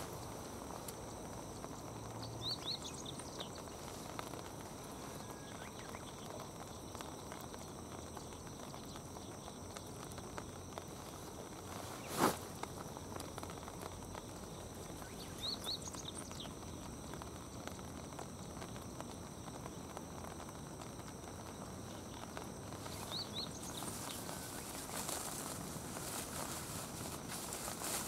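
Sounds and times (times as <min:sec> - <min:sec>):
small bird chirping: 0:00.0 - 0:18.8, 0:21.3 - 0:28.0
birds pecking and stepping on gravel: 0:00.0 - 0:28.0
steady outdoor hiss: 0:00.0 - 0:28.0.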